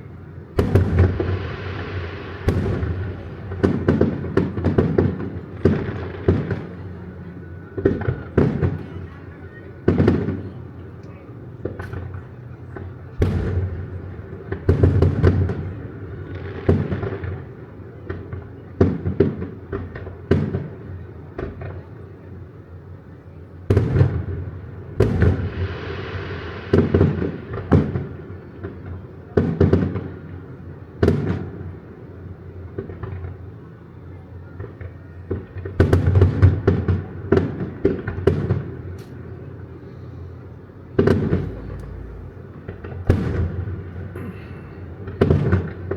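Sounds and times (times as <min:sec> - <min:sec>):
fireworks booming: 0:00.3 - 0:10.7, 0:11.4 - 0:20.8, 0:23.7 - 0:30.4, 0:34.6 - 0:45.9.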